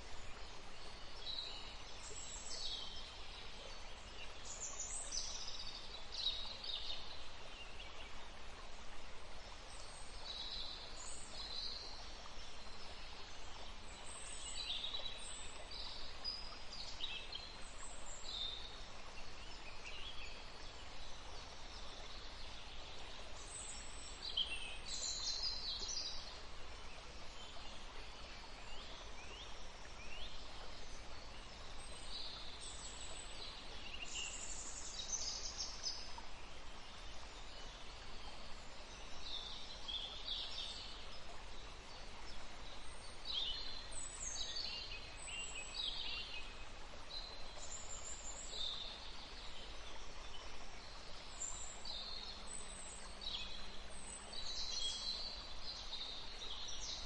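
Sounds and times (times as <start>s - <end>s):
low background hiss: 0.0s - 57.0s.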